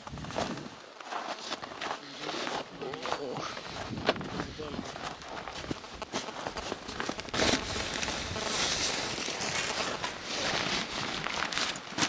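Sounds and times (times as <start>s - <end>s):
nylon clothing rustling: 0.0s - 12.0s.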